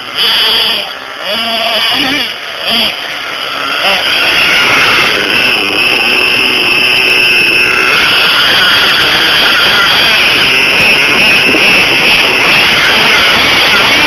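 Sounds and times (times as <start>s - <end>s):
model car engine whining: 0.0s - 14.0s.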